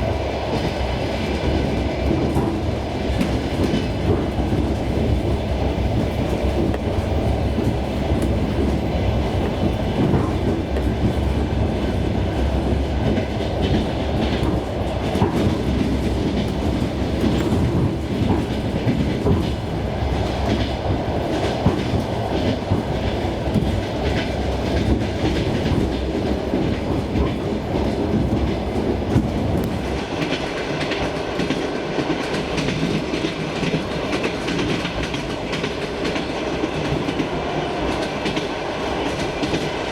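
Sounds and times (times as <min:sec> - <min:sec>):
train rumble and hiss: 0:00.0 - 0:39.9.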